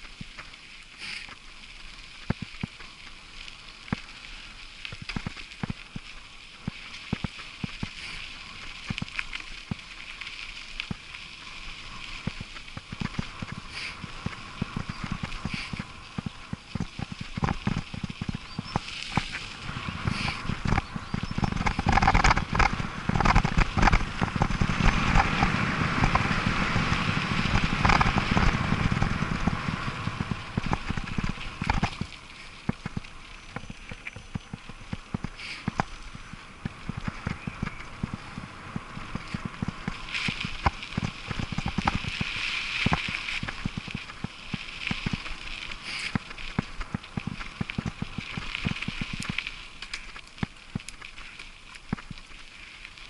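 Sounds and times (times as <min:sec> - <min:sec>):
bike rattling over stones: 0:00.0 - 0:53.0
bike tyres rolling on gravel: 0:00.0 - 0:53.0.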